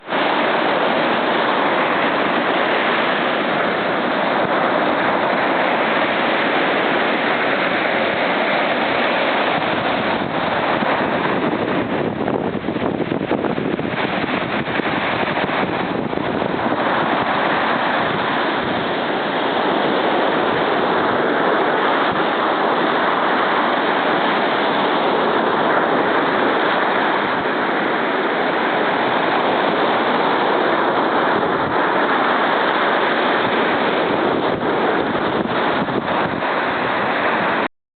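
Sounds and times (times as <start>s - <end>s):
sea surf breaking on shore: 0.0s - 37.7s
wind on microphone: 0.0s - 37.7s.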